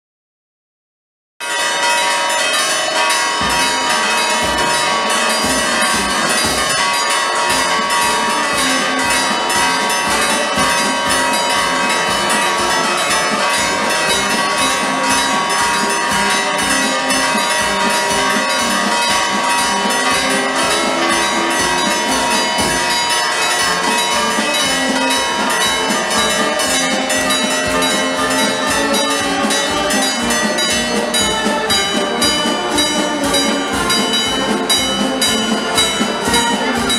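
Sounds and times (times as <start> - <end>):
church bells pealing: 1.4 - 36.9.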